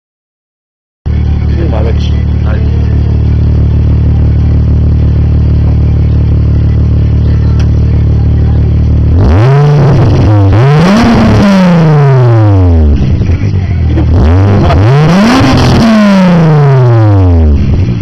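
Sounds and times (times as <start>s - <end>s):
car engine idling and revving: 1.1s - 18.0s.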